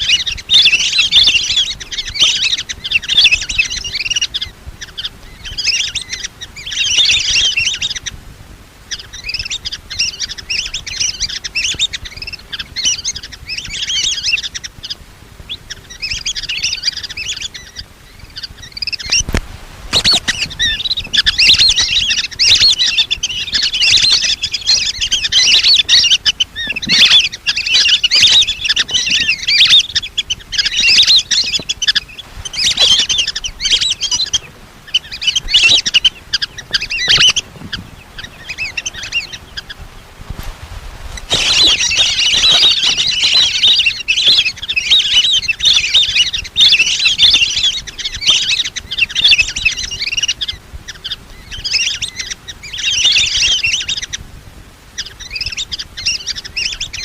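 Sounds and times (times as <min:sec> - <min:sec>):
whistling ducks calling: 0:00.0 - 0:08.2, 0:08.8 - 0:40.2, 0:41.1 - 0:54.2, 0:54.9 - 0:57.0.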